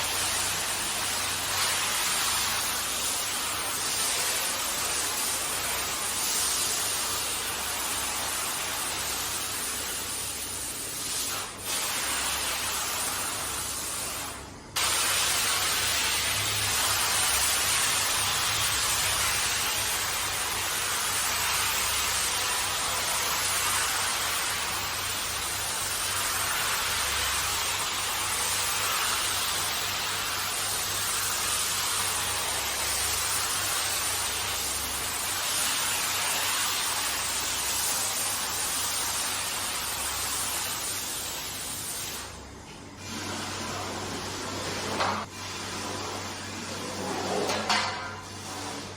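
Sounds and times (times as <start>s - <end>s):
high-pressure water spray hissing: 0.0s - 45.6s.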